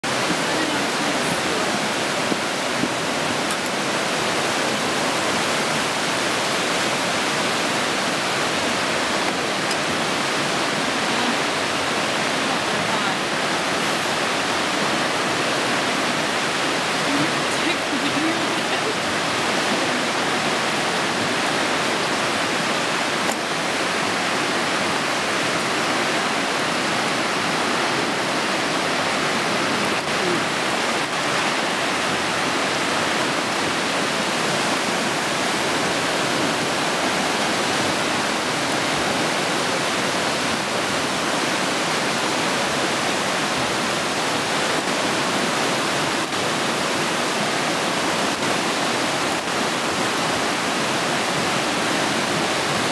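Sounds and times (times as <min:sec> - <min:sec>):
whitewater rushing through a gorge: 0:00.0 - 0:52.9.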